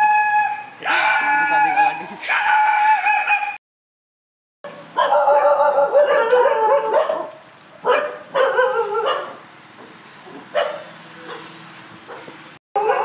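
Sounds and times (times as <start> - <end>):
dogs barking and yelping: 0.0 - 3.6, 4.7 - 9.4, 10.3 - 13.0.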